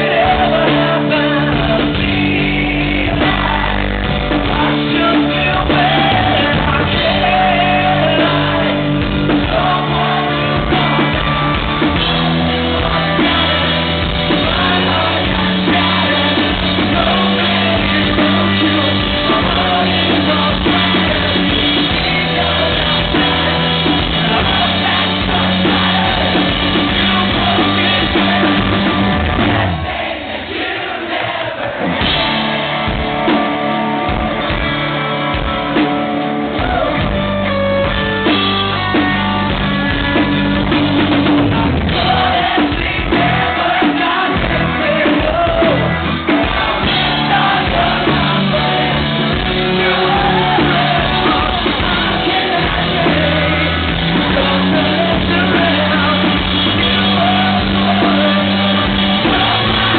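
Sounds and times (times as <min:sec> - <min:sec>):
man singing into microphone: 0:00.0 - 0:29.8, 0:39.4 - 0:59.9
rock band playing: 0:00.0 - 0:59.9.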